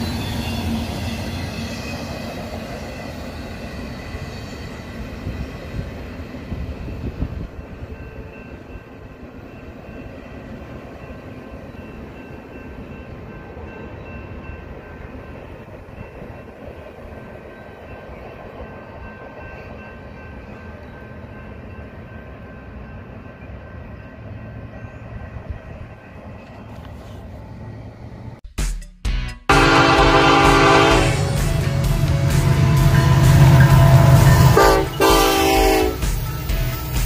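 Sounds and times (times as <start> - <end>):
freight train rumbling: 0.0 - 28.4, 29.5 - 37.0.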